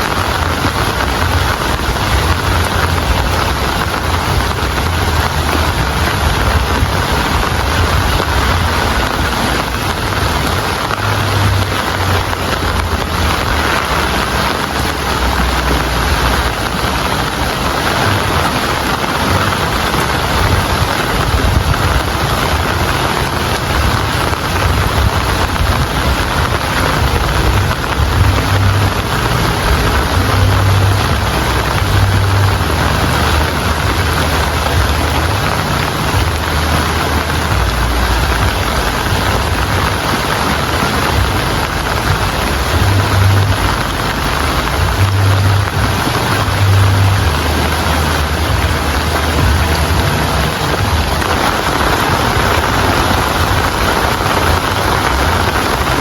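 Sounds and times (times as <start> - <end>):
low rumble: 0.0 - 56.0
steady rain hiss: 0.0 - 56.0.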